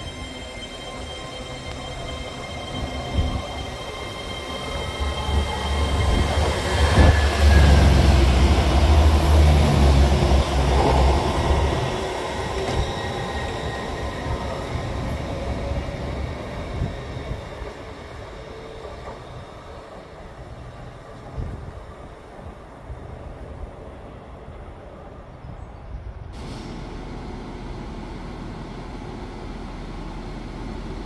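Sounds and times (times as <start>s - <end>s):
train rumble and rail noise: 0.0s - 31.0s.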